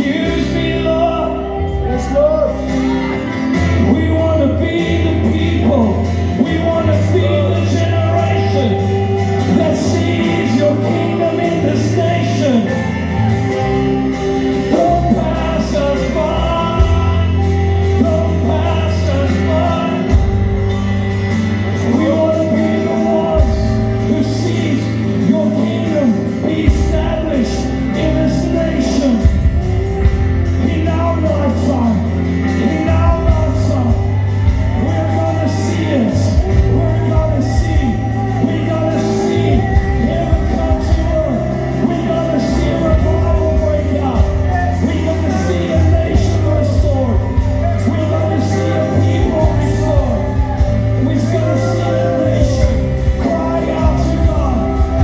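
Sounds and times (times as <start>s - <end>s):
held bass chords: 0.0s - 55.0s
person singing: 0.0s - 55.0s.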